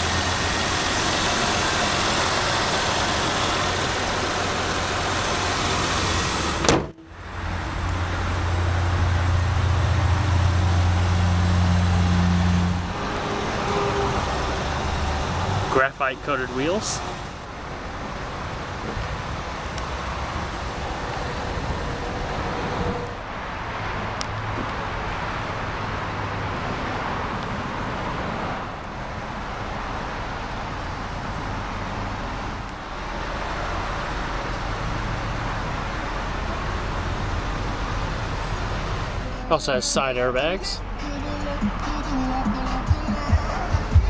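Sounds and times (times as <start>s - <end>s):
car engine idling: 0.0s - 12.0s, 12.7s - 22.5s, 28.6s - 44.0s
outdoor background noise: 0.0s - 44.0s.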